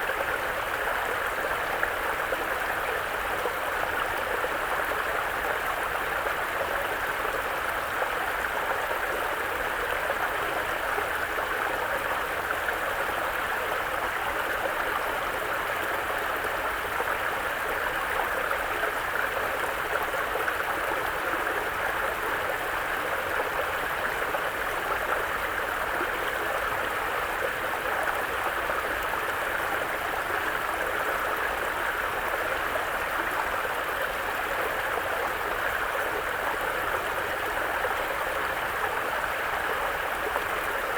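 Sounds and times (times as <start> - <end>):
brook flowing over rocks: 0.1 - 40.9.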